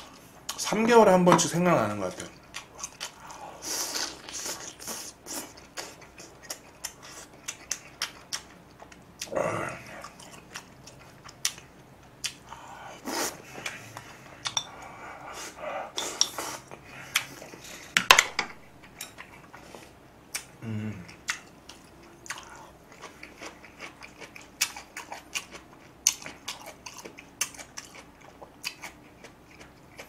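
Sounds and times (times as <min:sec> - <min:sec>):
chewing: 0:02.2 - 0:18.0, 0:18.8 - 0:30.0.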